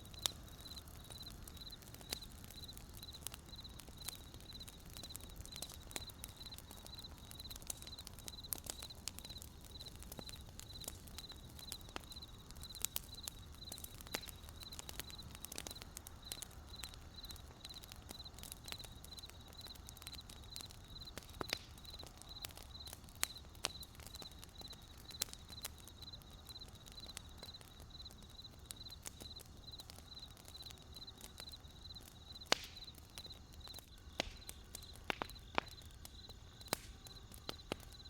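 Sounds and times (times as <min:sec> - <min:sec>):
campfire crackling and popping: 0:00.0 - 0:38.0
cricket chirping: 0:00.1 - 0:38.0.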